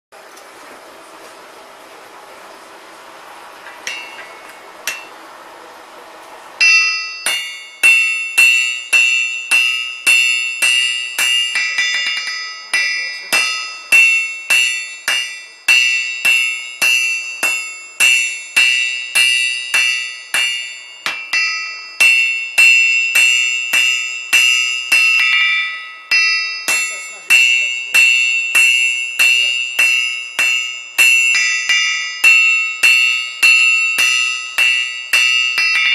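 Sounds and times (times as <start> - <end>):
hammer striking anvil ringing: 3.8 - 5.2, 6.6 - 35.9.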